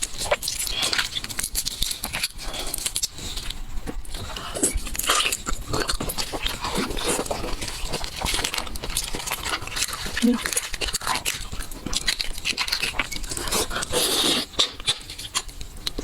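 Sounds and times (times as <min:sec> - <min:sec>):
person chewing with crunches: 0:00.0 - 0:16.0.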